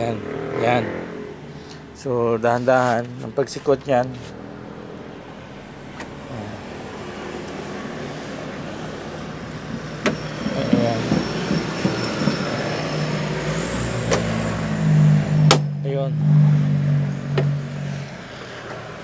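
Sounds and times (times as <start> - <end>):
background traffic noise: 0.0 - 19.0.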